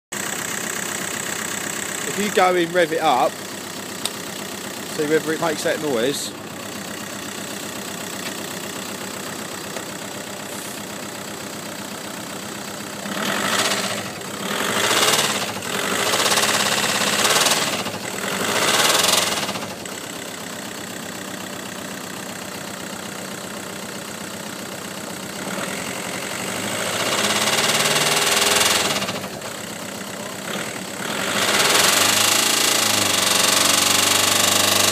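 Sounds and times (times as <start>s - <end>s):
car engine idling and revving: 0.1s - 34.9s
engine knocking: 0.1s - 34.9s.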